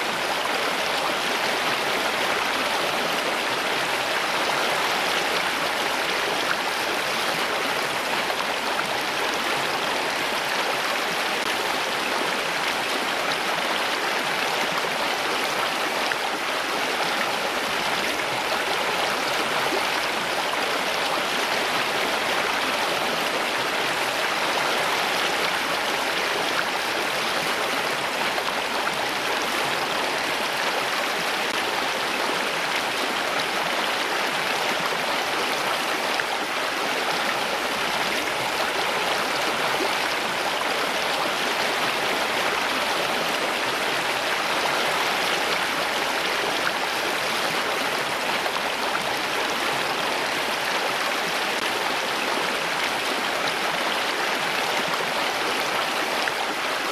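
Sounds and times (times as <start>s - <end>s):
flowing water: 0.0s - 56.9s.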